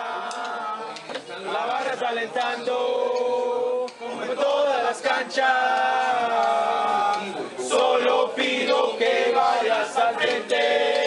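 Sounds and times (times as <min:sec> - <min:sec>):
men singing a chant together: 0:00.0 - 0:11.0.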